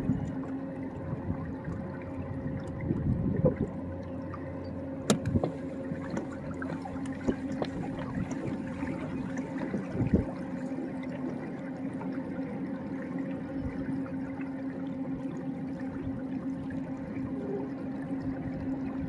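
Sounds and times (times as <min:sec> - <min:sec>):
water sloshing against kayak hull: 0:00.0 - 0:18.8
faint steady hum: 0:00.0 - 0:19.0.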